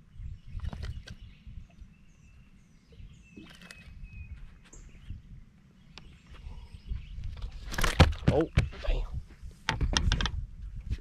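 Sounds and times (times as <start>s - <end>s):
birds chirping: 0.0s - 10.2s.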